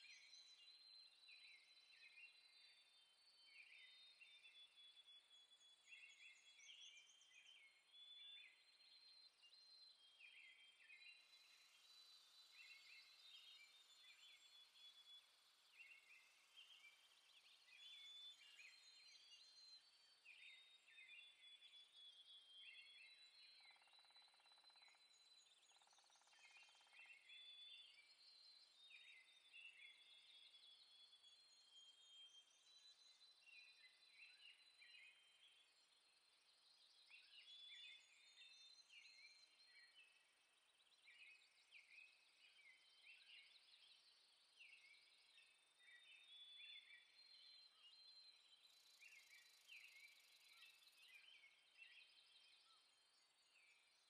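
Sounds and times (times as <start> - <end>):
small birds chirping and singing: 0.0 - 54.0.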